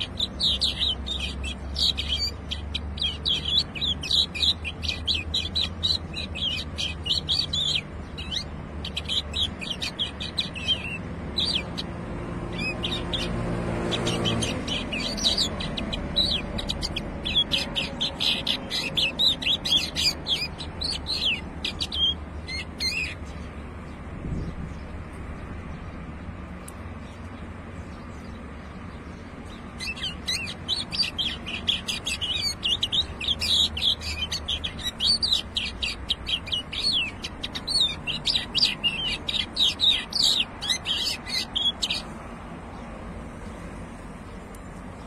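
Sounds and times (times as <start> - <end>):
bird singing high chirps: 0.0 - 25.0, 26.9 - 43.0.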